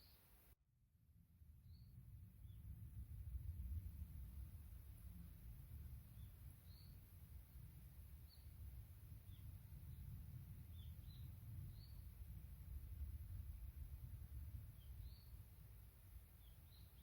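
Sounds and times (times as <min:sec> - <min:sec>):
wind rumble: 0:01.2 - 0:17.0.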